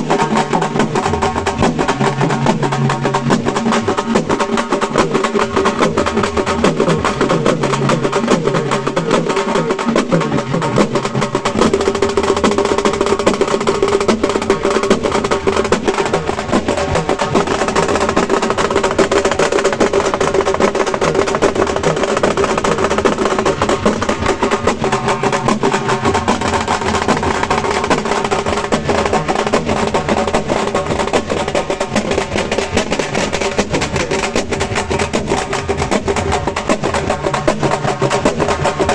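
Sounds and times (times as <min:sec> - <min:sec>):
frame drums beaten with sticks: 0:00.0 - 0:38.9.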